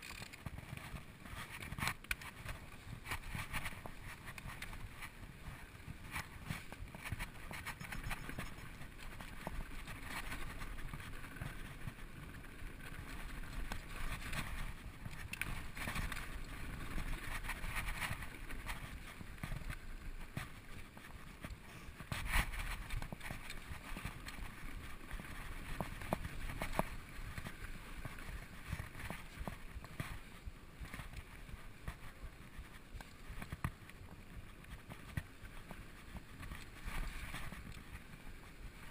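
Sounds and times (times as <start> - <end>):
bike rattling and knocking: 0.0 - 32.5
bike tyres rolling over stones: 0.0 - 38.9.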